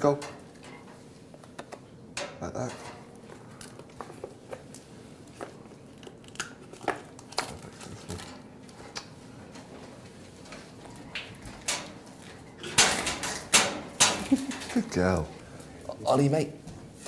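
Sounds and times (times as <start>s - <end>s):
steady room hum: 0.0s - 17.0s.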